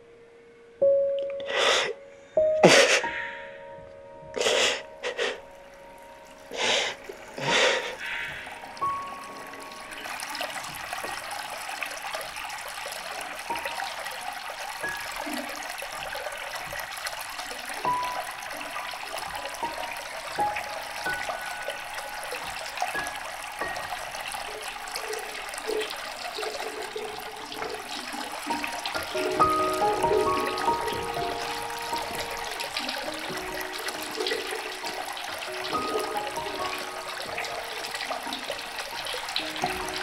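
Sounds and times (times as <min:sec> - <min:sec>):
faint held music notes: 0:00.0 - 0:40.0
tap water running into sink: 0:06.4 - 0:40.0.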